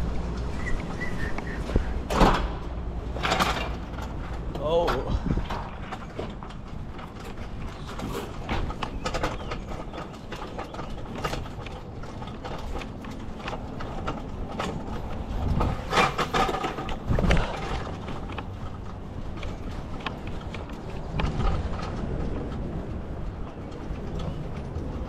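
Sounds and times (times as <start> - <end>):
clicks and rattles: 0.0 - 25.0.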